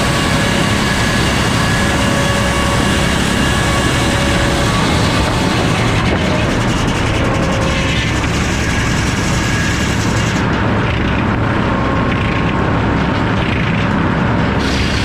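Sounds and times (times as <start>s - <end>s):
circular saw and machinery din: 0.0s - 15.0s.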